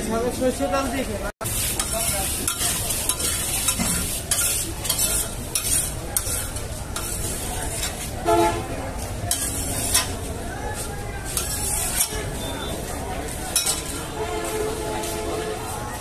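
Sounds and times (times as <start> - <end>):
hot oil sizzling: 1.4 - 8.2, 8.9 - 15.7
metal spatula scraping frying pan: 1.4 - 10.3, 11.3 - 15.7.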